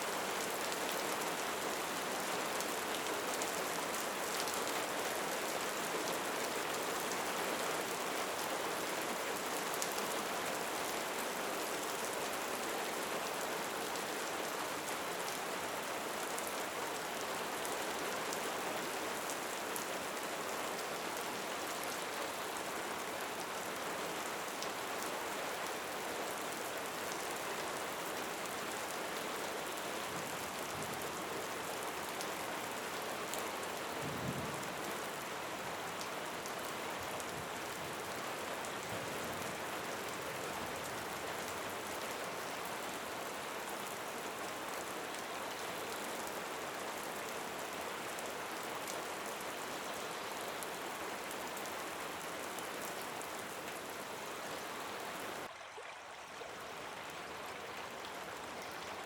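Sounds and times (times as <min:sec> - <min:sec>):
steady rain falling: 0:00.0 - 0:55.5, 0:56.4 - 0:59.0.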